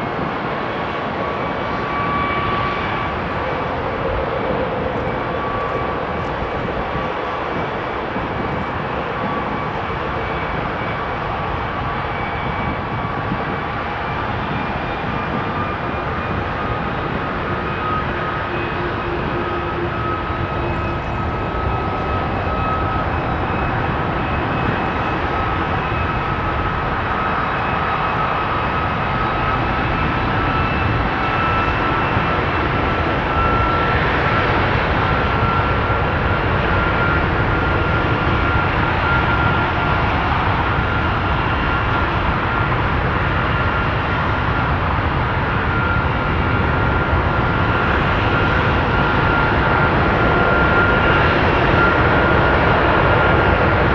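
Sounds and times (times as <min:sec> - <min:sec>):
jet engines whining: 0:00.1 - 0:53.9.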